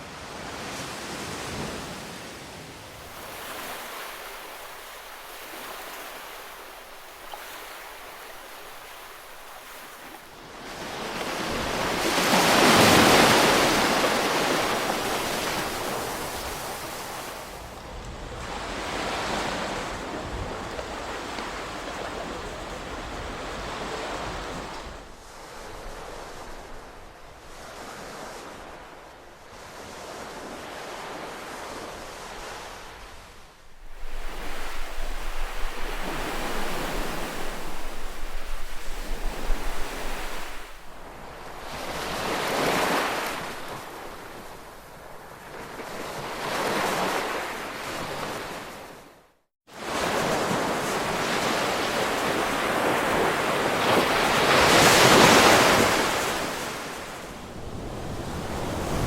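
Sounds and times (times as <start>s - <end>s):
ocean surf breaking: 0.0s - 28.9s, 30.3s - 48.9s, 49.8s - 59.0s.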